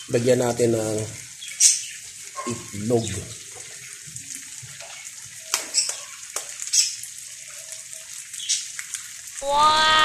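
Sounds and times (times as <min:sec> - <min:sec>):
food sizzling on a hot plate: 0:00.0 - 0:10.0.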